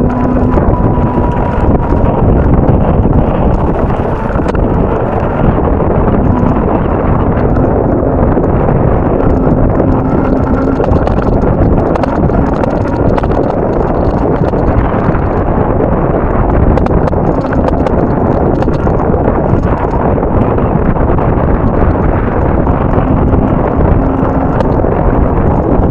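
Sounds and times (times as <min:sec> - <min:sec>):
sharp clicks and crunches: 0:00.0 - 0:25.9
strong wind buffeting microphone: 0:00.0 - 0:25.9.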